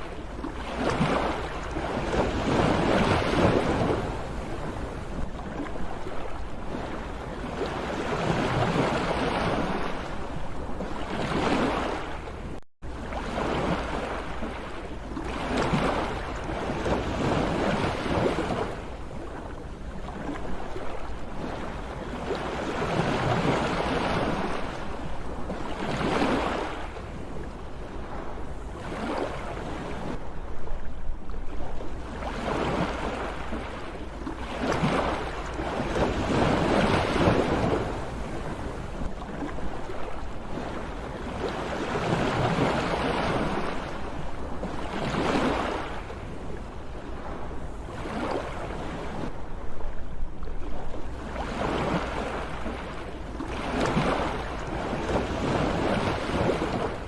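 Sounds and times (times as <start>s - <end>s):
waves breaking and washing in: 0.0s - 57.0s.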